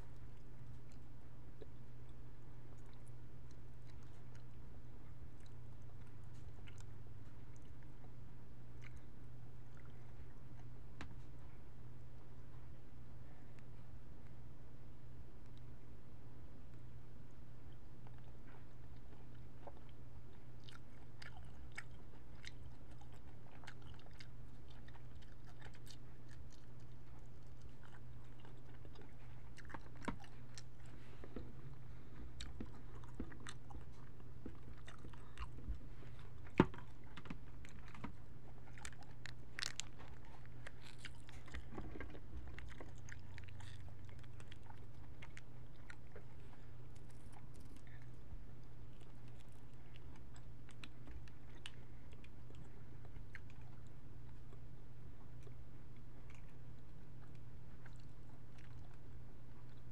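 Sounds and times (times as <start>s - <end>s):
chewing shrimp: 0.0s - 14.4s, 16.7s - 59.9s.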